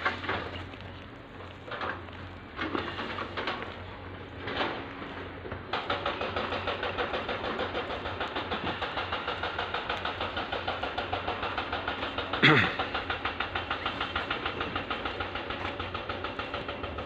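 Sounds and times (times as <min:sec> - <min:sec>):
engine starting and chugging: 0:00.0 - 0:17.0.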